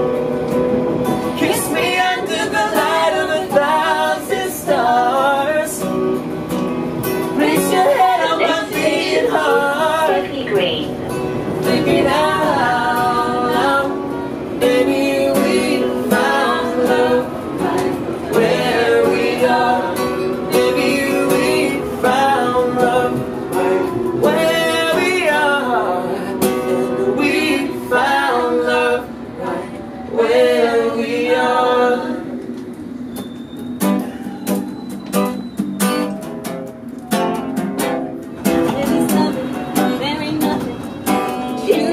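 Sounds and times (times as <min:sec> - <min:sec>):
acoustic guitar: 0:00.0 - 0:41.9.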